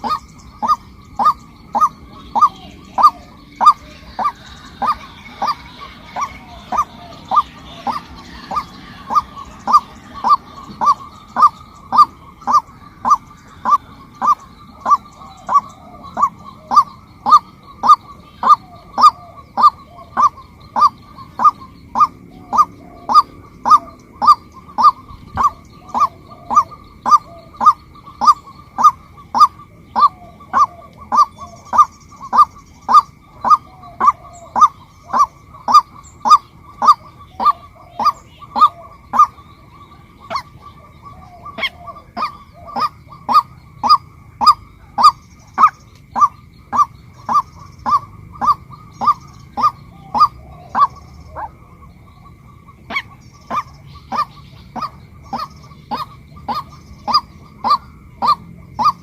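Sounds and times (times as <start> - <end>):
faint steady high tone: 0.0 - 47.7
waterhen calling: 0.0 - 59.0.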